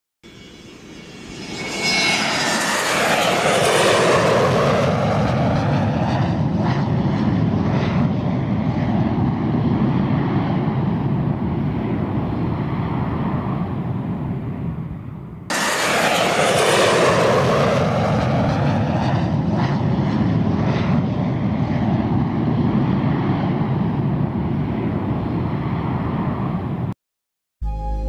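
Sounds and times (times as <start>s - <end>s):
airplane engine drone: 0.2s - 27.0s.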